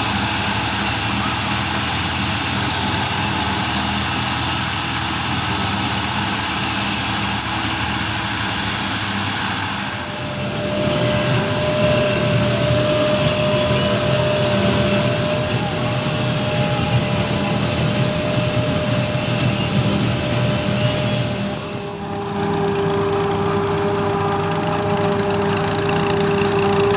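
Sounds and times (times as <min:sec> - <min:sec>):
heavy harvester machine drone: 0:00.0 - 0:26.9
steady whine: 0:00.0 - 0:26.9.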